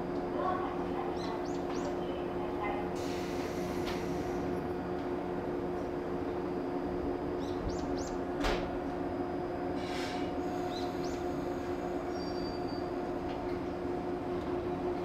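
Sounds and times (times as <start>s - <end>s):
electric trains humming: 0.0s - 15.0s.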